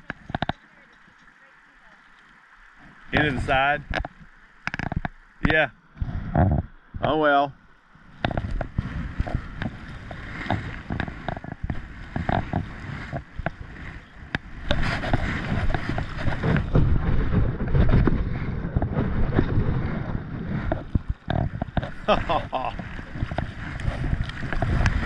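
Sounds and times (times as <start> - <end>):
paddle strokes splashing: 0.0 - 7.2, 7.8 - 25.0
river current rushing: 0.0 - 17.1, 20.5 - 25.0.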